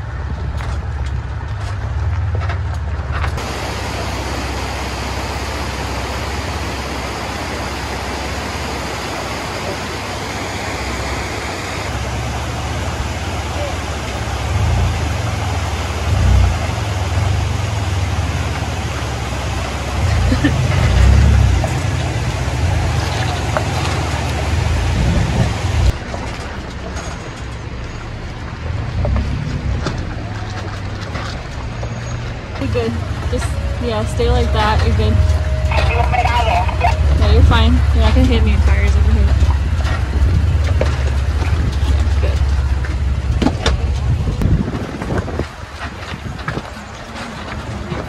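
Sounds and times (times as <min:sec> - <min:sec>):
wind noise: 0:00.0 - 0:26.0, 0:31.2 - 0:48.0
truck engine rumble: 0:00.0 - 0:48.0.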